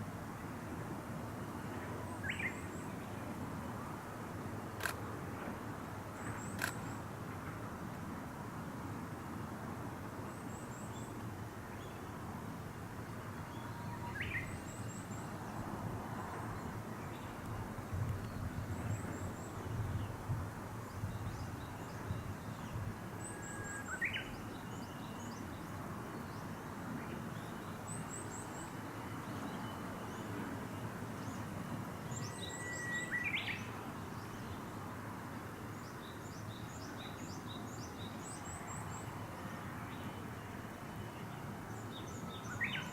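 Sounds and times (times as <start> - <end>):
steady outdoor hiss: 0.0 - 42.9.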